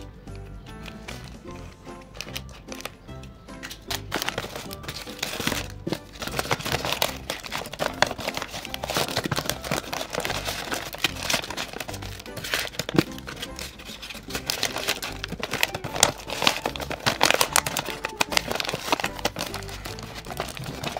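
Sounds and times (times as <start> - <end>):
background music: 0.0 - 20.9
paper crinkling: 0.8 - 20.9.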